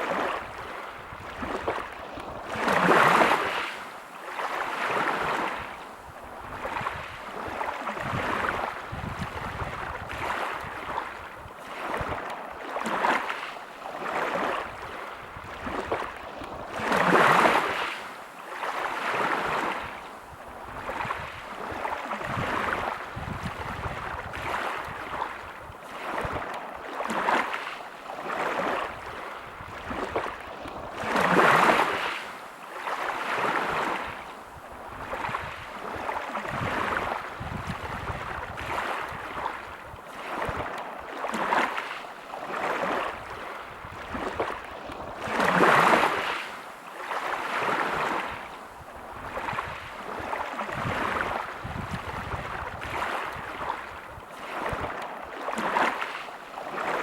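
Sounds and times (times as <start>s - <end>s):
waves breaking on pebble beach: 0.0s - 5.8s, 6.5s - 20.0s, 20.7s - 34.3s, 34.9s - 57.0s.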